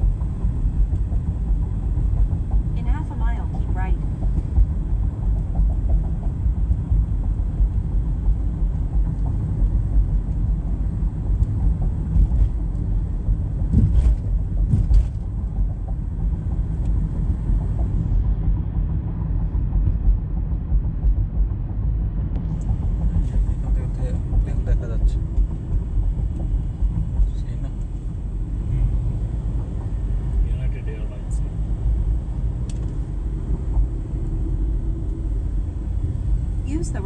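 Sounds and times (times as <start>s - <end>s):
car driving rumble inside cabin: 0.0s - 37.0s.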